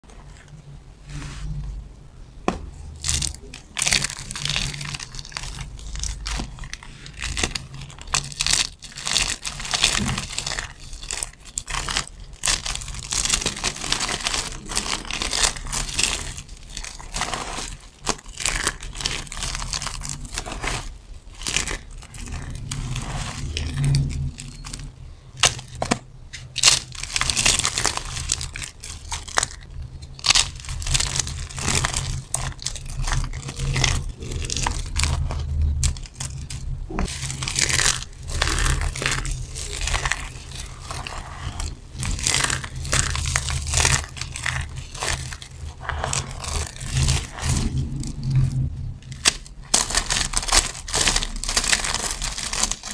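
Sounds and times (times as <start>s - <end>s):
soap shavings crunching: 2.8s - 52.9s.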